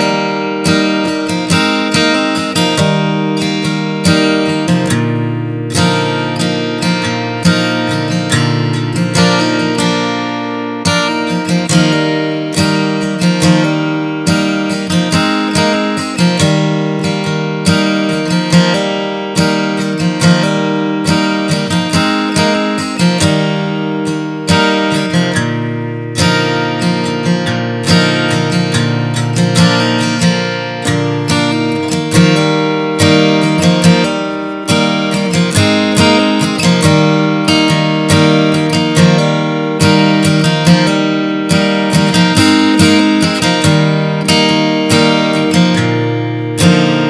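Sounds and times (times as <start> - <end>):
acoustic guitar strumming chords: 0.0 - 47.0.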